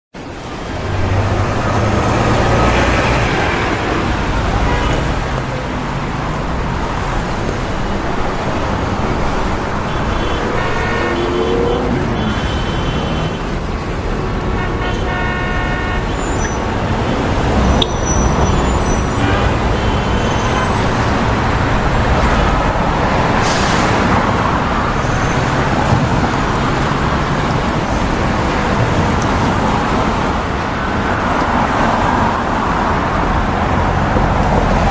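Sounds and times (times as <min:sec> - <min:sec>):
city traffic: 0:00.1 - 0:34.9.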